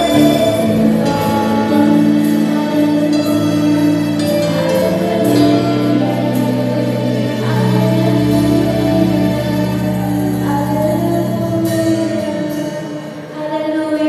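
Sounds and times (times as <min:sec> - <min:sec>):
held instrumental chords: 0:00.0 - 0:13.9.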